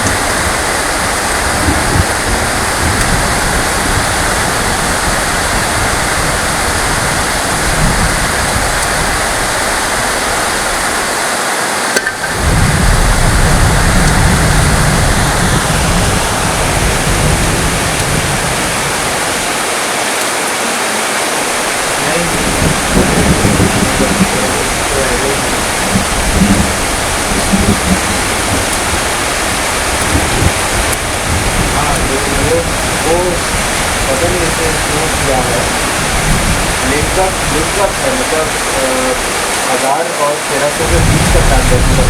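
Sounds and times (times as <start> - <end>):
distant thunder rumble: 0.0 - 11.2, 12.1 - 19.9, 21.0 - 42.0
heavy rain: 0.0 - 42.0.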